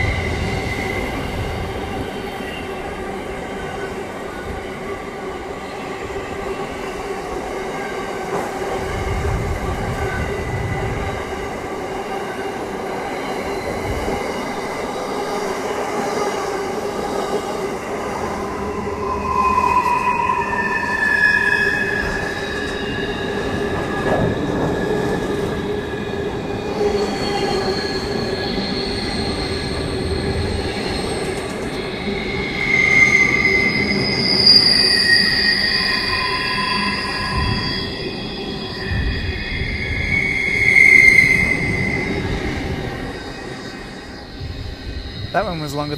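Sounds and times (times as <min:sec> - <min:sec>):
train wheels squealing: 0:00.0 - 0:45.8
freight train rumbling on rails: 0:00.0 - 0:45.9.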